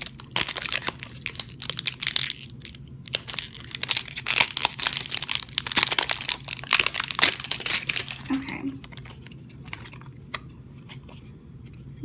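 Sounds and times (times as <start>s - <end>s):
plastic shrink-wrap crinkling and tearing: 0.0s - 10.1s.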